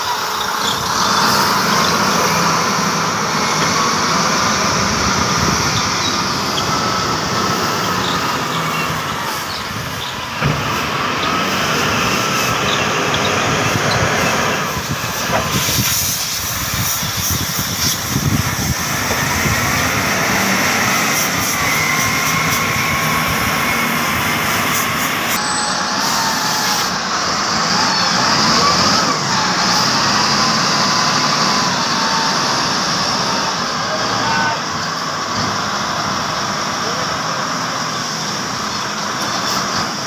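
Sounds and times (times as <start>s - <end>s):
heavy machinery diesel engines revving: 0.0s - 40.0s.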